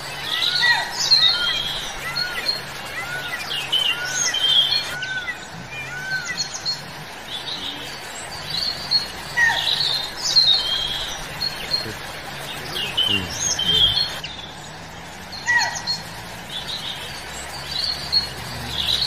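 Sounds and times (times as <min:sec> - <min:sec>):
high bird chirps: 0:00.0 - 0:19.0.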